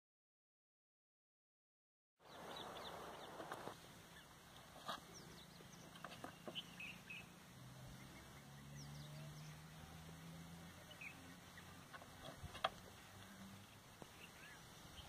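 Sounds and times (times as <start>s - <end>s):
bird chirps: 2.2s - 15.0s.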